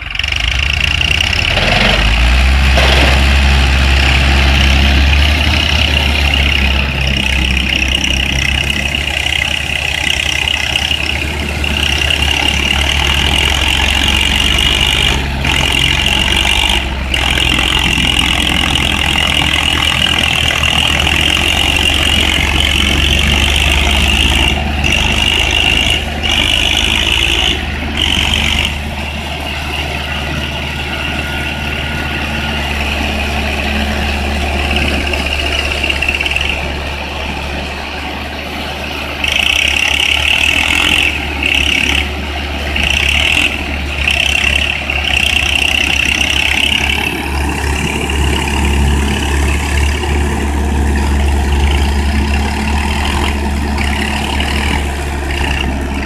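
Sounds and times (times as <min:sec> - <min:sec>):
diesel tractor engines droning: 0:00.0 - 0:56.0.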